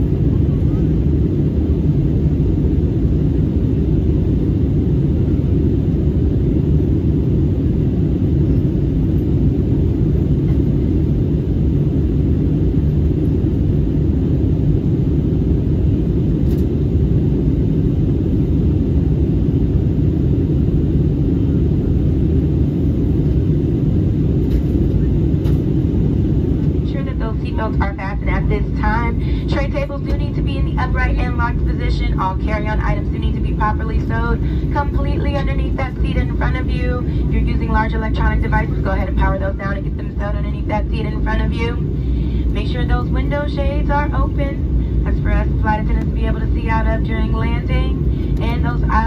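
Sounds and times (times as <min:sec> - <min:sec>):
jet cabin engine and airflow rumble: 0:00.0 - 0:49.0.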